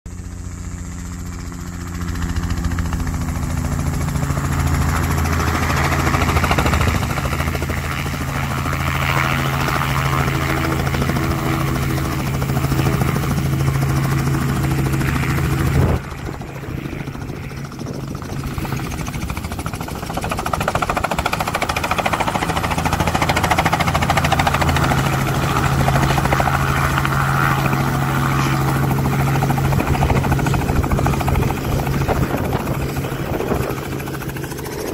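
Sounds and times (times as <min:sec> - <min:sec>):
helicopter rotor beat: 0:00.1 - 0:34.9.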